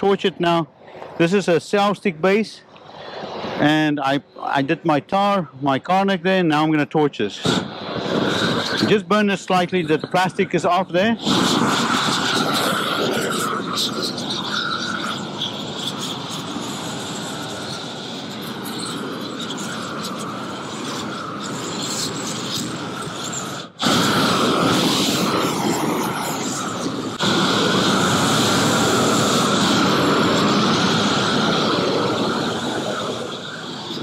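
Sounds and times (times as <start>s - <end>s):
roofing torch burning: 6.6s - 34.0s.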